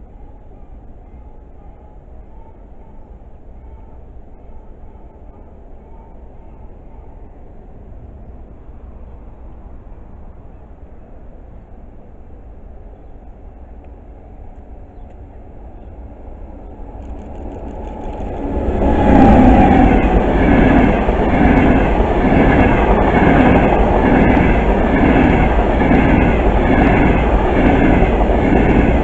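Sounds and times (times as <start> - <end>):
electric train rushing past: 0.0 - 29.0.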